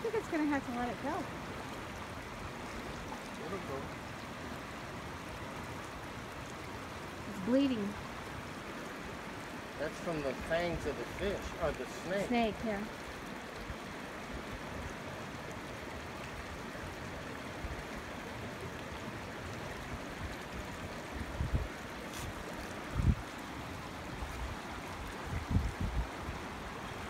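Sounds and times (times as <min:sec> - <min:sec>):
creek water over rocks: 0:00.0 - 0:27.0.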